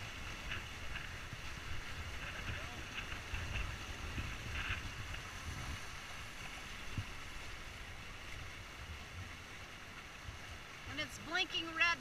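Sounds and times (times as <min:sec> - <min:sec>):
water rushing along hulls: 0:00.0 - 0:12.0
wind buffeting microphone: 0:00.0 - 0:12.0.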